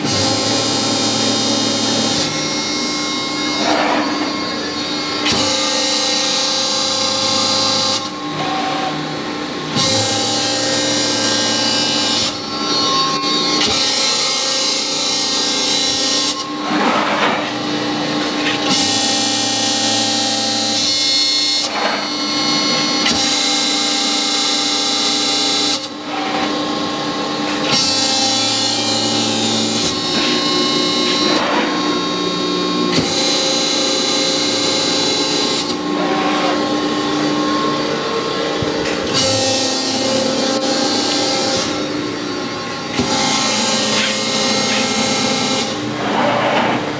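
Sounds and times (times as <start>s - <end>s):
motor and pump hum: 0.0s - 46.9s.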